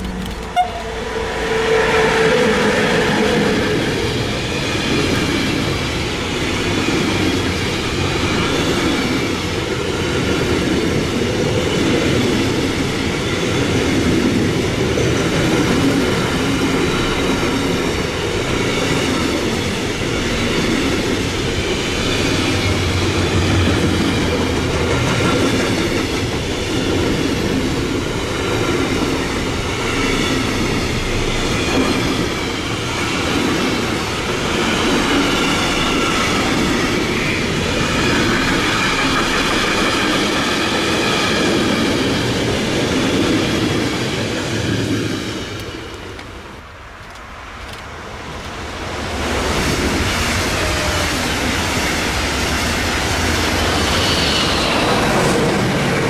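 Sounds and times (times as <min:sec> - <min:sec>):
electric locomotive passing: 0:00.0 - 0:56.0
train wheels rolling on rails: 0:00.0 - 0:56.0.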